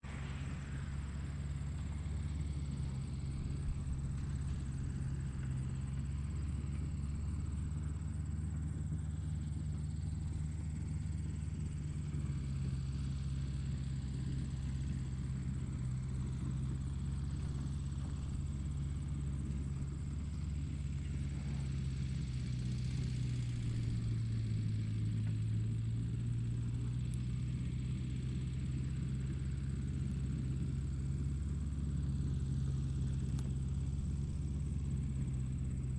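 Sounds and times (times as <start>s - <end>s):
tractor engine droning: 0.0s - 35.9s.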